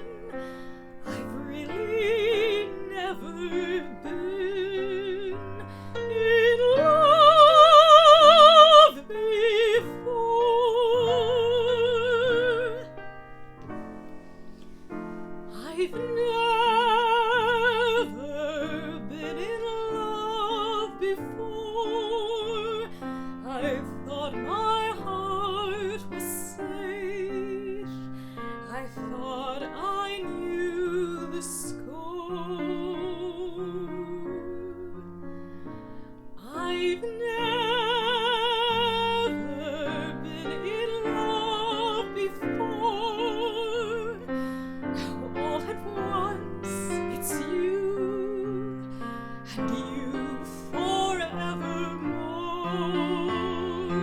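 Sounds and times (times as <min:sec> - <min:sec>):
woman singing: 0:00.0 - 0:13.3, 0:15.4 - 0:35.2, 0:36.4 - 0:54.0
piano accompaniment: 0:00.0 - 0:54.0.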